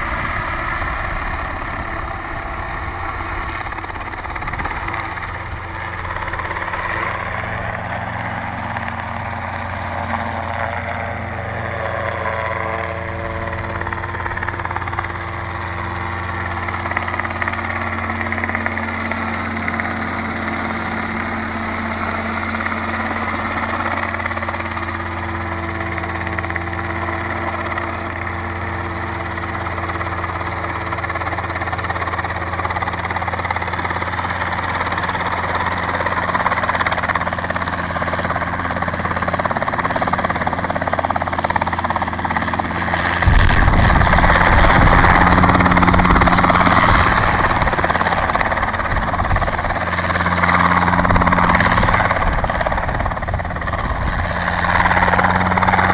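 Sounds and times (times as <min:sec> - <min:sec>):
helicopter flying past: 0:00.0 - 0:55.9.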